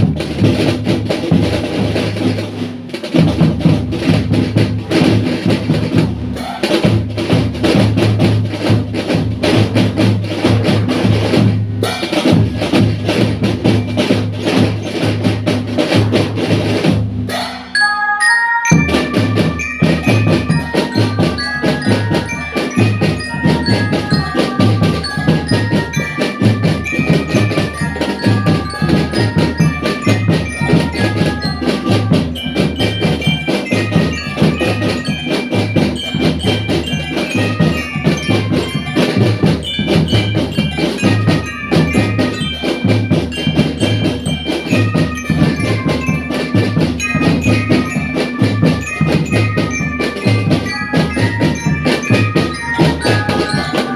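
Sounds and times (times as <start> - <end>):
snare and bass drums: 0.0 - 17.6, 18.7 - 53.9
bell-like mallet percussion melody: 0.0 - 53.9.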